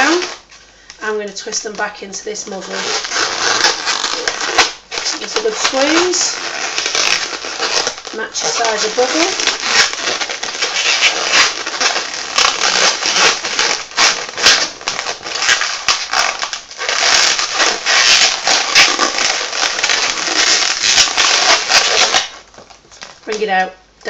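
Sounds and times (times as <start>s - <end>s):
rubber balloons squeaking: 0.0s - 0.6s, 1.5s - 23.5s.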